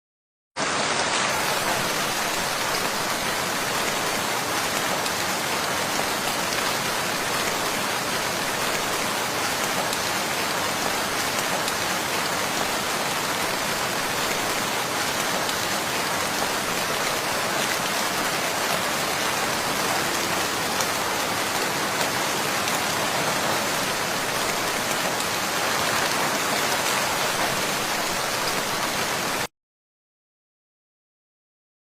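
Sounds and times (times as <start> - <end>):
heavy rain pouring: 0.6 - 29.5.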